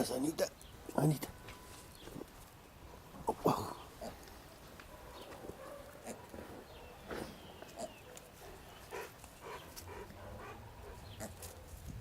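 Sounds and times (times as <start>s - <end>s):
animal sounds: 2.0s - 11.8s.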